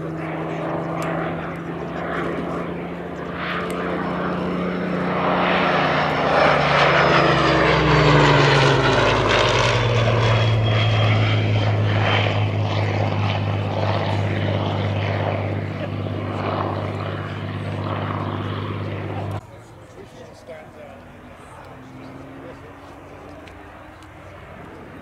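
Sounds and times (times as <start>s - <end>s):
propeller plane flying past: 0.0s - 25.0s.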